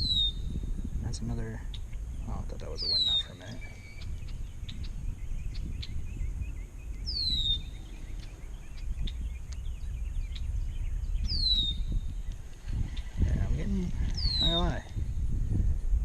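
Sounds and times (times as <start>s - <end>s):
soft bird chirps: 0.0s - 15.3s
steady low rumble: 0.0s - 16.0s.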